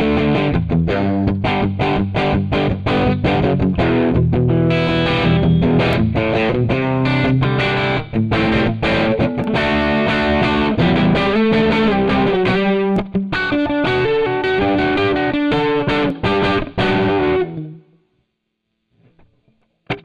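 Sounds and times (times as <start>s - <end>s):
distorted electric guitar lead: 0.0s - 18.0s, 19.0s - 20.0s.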